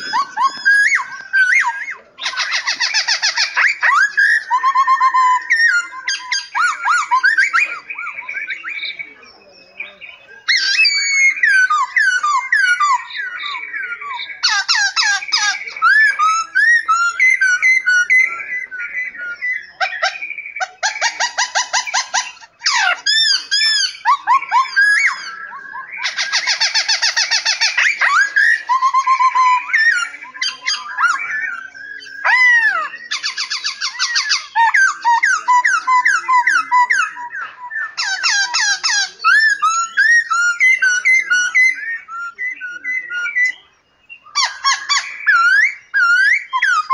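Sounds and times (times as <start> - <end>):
rattling bird trills: 0.0 - 9.0, 10.1 - 43.6
songbirds singing: 0.0 - 46.9.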